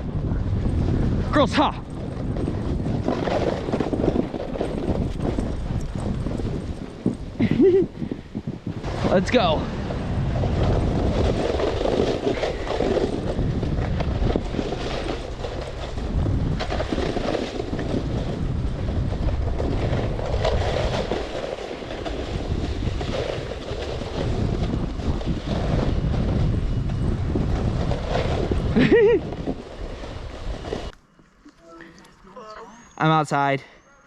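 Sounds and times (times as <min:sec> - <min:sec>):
snowboard scraping over snow: 0:00.0 - 0:31.0
wind buffeting microphone: 0:00.0 - 0:31.0.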